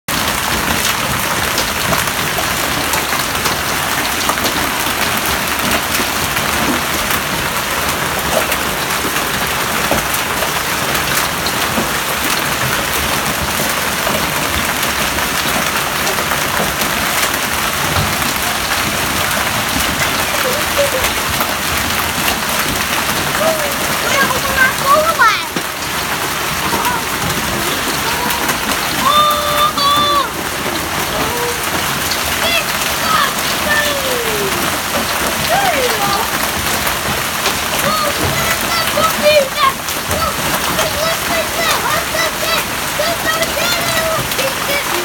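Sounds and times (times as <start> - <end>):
hailstones clattering: 0.1 - 45.0
hiss of falling ice and rain: 0.1 - 45.0.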